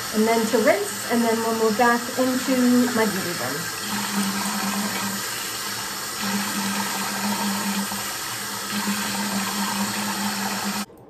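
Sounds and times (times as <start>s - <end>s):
tap water running: 0.0s - 10.9s.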